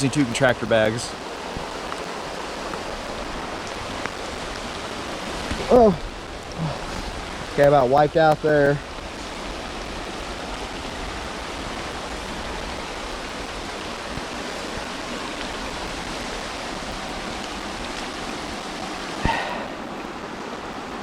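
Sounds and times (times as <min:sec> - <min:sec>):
creek flowing: 0:00.0 - 0:21.0
heavy rain falling: 0:00.0 - 0:21.0.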